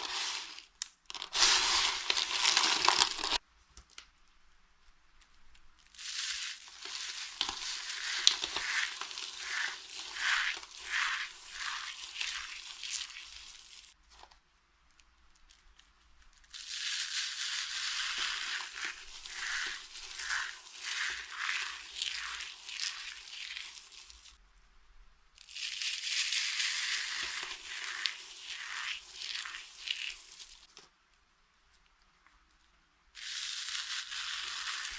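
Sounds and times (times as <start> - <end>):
dry soap crunching: 0.0 - 14.0, 15.0 - 24.4, 25.4 - 30.7, 33.2 - 34.9.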